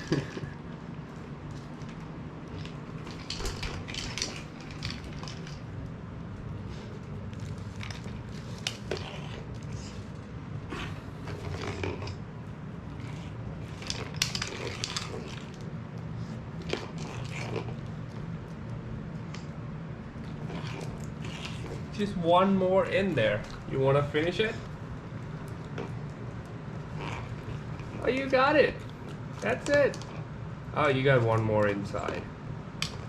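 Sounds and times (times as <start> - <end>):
dog crunching dry food: 1.4 - 5.9, 6.5 - 19.5, 20.1 - 22.0, 22.8 - 32.2.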